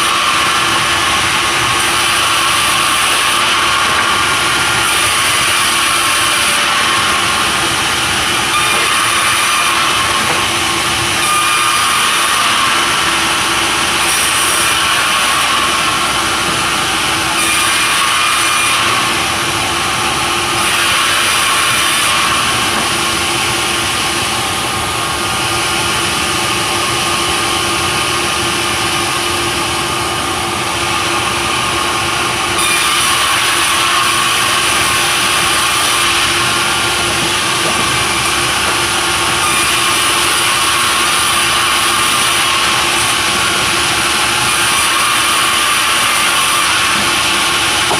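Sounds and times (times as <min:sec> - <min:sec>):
sawmill saw cutting timber: 0:00.0 - 0:47.9.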